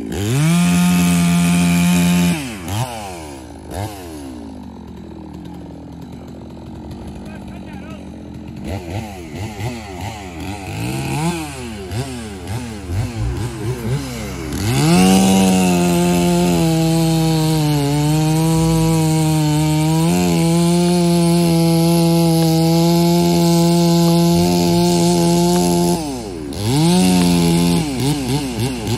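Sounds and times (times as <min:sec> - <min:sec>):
chainsaw cutting log: 0:00.0 - 0:28.9
chainsaw revving: 0:00.0 - 0:28.9.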